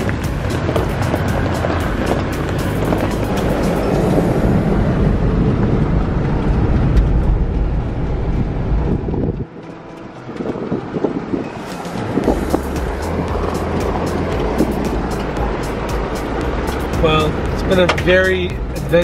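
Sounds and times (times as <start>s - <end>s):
tyres crunching on dirt: 0.0s - 19.0s
vehicle rumbling and rattling: 0.0s - 19.0s.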